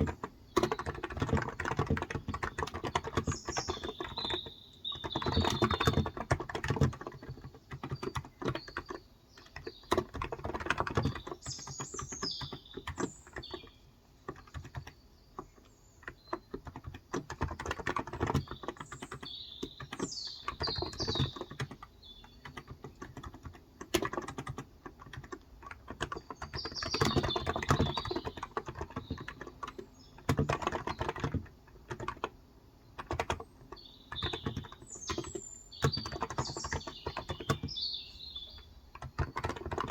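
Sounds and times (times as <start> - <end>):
birds chirping: 0.0 - 39.9
keyboard typing: 0.0 - 39.9.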